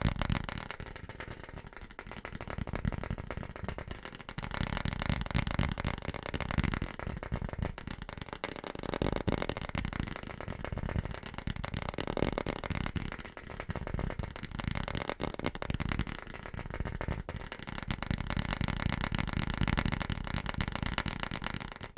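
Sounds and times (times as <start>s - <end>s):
fast rattling taps: 0.0s - 21.9s.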